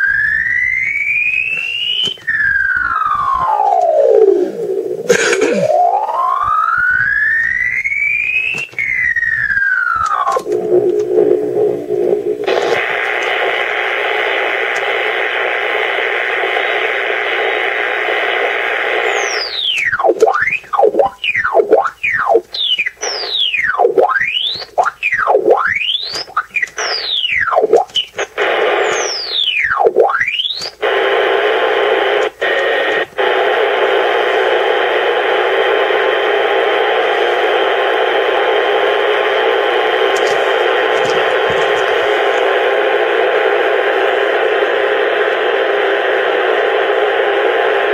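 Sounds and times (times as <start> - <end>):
swooping radio whistles: 0.0 - 5.0, 5.7 - 47.9
radio static hiss: 0.0 - 8.8, 9.7 - 47.9.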